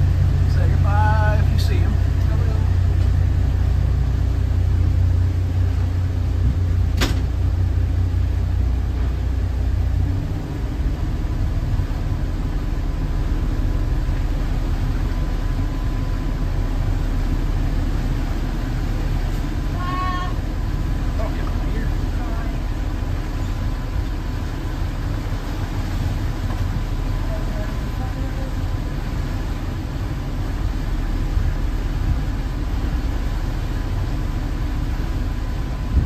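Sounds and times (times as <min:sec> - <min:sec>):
motorboat engine rumble: 0:00.0 - 0:36.0.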